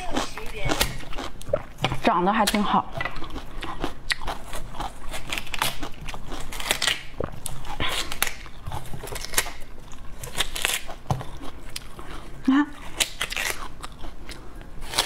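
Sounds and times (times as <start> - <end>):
person chewing watermelon: 0.0 - 15.0.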